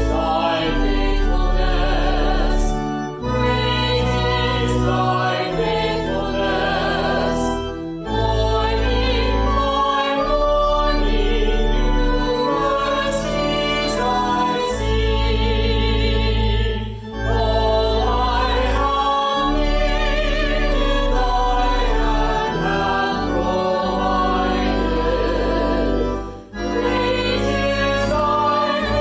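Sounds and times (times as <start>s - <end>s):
sustained low accompaniment: 0.0s - 29.0s
voices singing a hymn: 0.0s - 29.0s.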